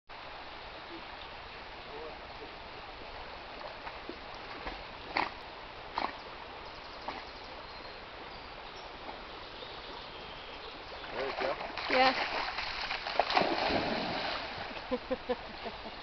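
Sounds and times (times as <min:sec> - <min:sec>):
flowing water hiss: 0:00.1 - 0:16.0.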